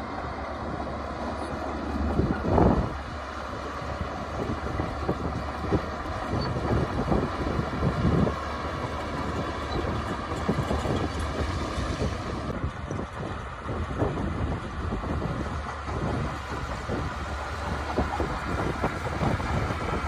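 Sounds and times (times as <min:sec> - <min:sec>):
diesel machinery engine rumble: 0:00.0 - 0:20.0.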